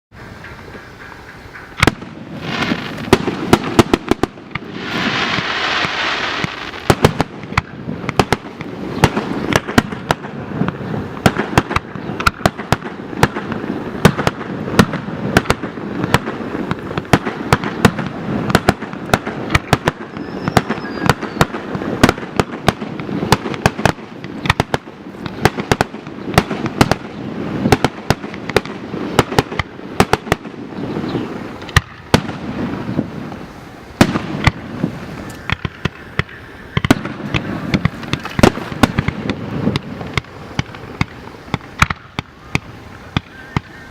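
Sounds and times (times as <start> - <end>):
fireworks hissing: 0.1 - 43.9
fireworks bangs and pops: 0.4 - 43.9.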